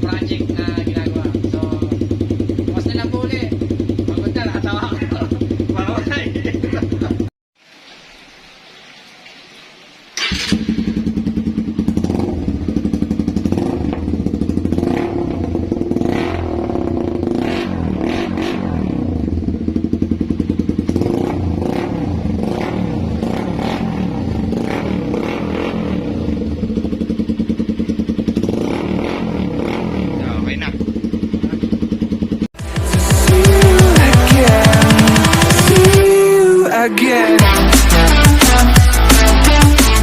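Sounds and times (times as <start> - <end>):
motorcycle engine revving: 0.0 - 7.3, 10.2 - 36.3.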